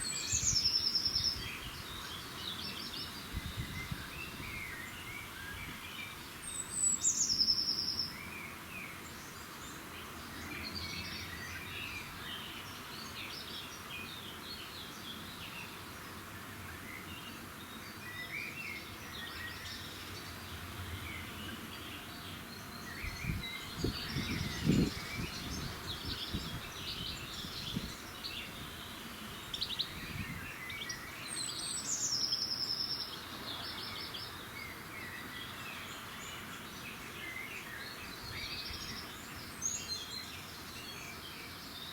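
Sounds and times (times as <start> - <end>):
small birds chirping and twittering: 0.0 - 41.9.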